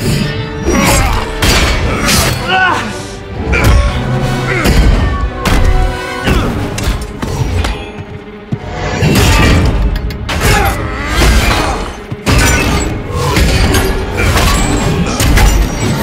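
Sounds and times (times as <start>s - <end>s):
orchestral score: 0.0s - 16.0s.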